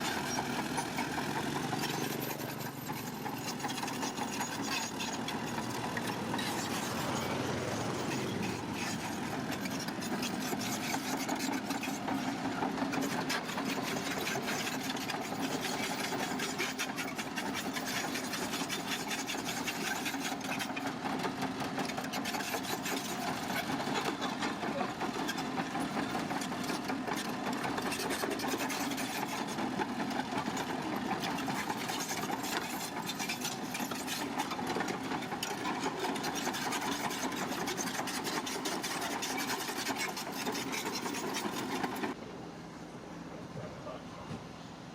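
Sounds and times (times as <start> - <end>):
diesel engine clattering: 0.0 - 42.2.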